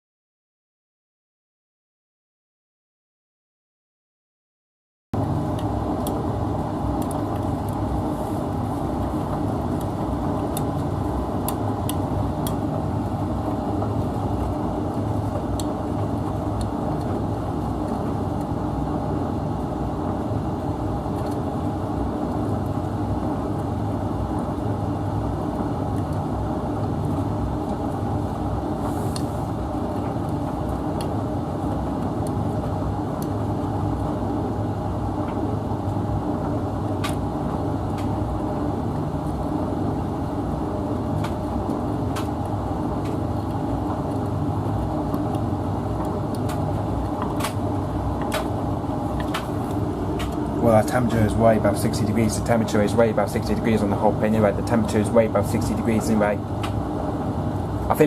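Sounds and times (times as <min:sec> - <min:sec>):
laundry appliance rumbling: 0:05.2 - 0:58.0.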